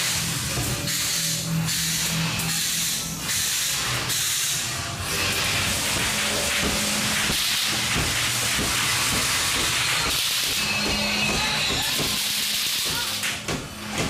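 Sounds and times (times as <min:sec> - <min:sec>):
loud hiss of air: 0:00.9 - 0:13.4.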